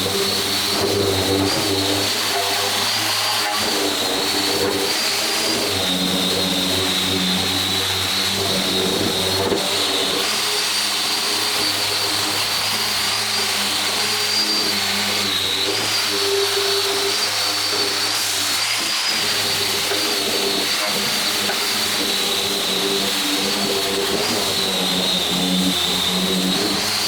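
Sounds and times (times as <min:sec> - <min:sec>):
power tool motor whine: 0:00.0 - 0:27.0.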